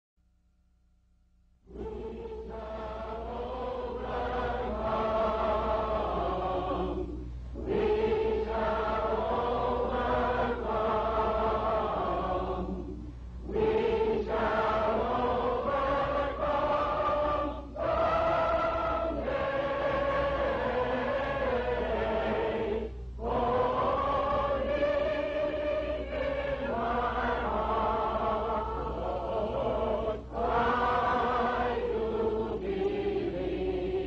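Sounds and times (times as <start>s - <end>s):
low recording hum: 0.2s - 34.0s
choir singing slowly: 1.7s - 34.0s.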